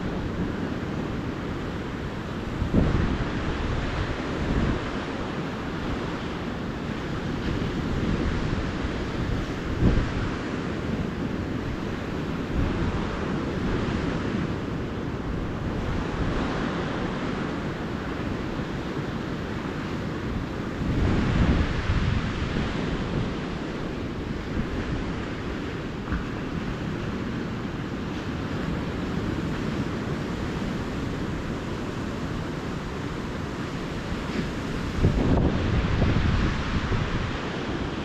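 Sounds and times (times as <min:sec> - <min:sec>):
ocean surf washing onto beach: 0:00.0 - 0:38.0
wind buffeting microphone: 0:00.0 - 0:38.0.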